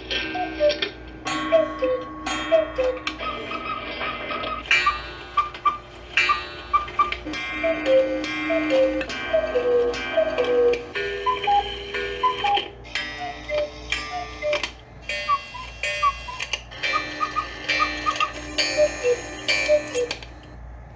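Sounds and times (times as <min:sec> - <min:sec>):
bright pitched notes: 0:00.2 - 0:20.1
ticking beat: 0:00.3 - 0:03.6, 0:04.7 - 0:20.2.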